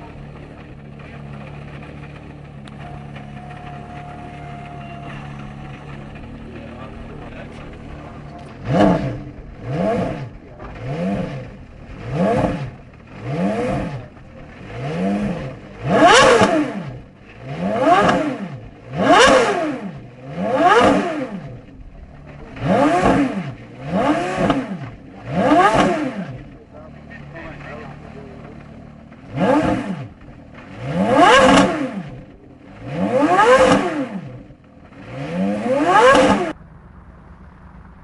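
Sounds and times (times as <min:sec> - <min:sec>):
sports car engine revving: 0:00.0 - 0:38.0.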